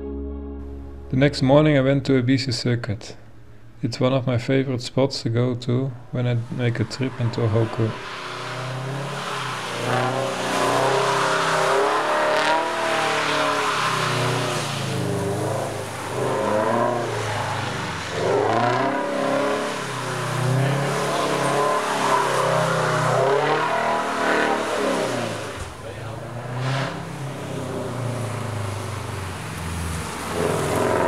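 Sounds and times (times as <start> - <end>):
car engine revving: 0.6 - 31.0.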